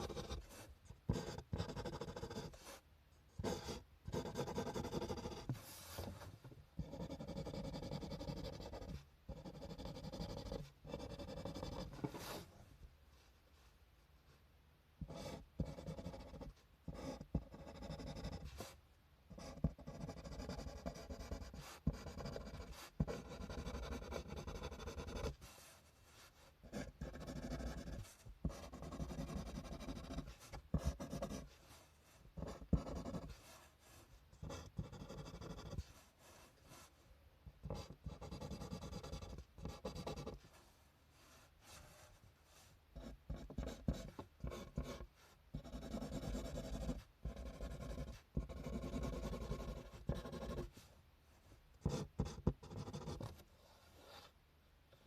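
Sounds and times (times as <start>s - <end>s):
pen scratching on paper: 0.0s - 2.8s, 3.4s - 12.5s, 15.0s - 40.6s, 41.2s - 50.9s, 51.8s - 53.4s.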